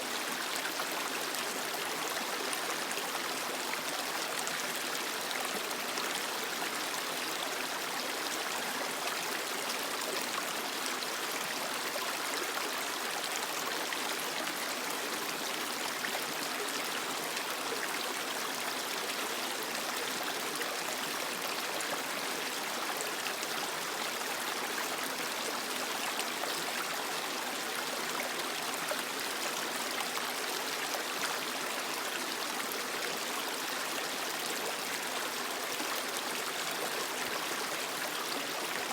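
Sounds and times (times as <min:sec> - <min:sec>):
creek running over rocks: 0:00.0 - 0:38.9.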